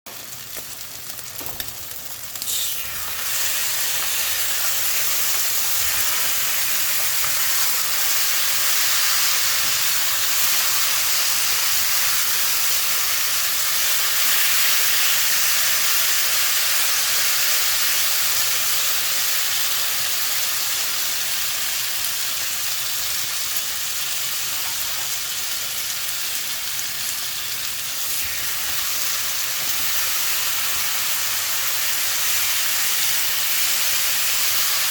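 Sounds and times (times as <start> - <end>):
fried rice sizzling in a pan: 0.1 - 34.9.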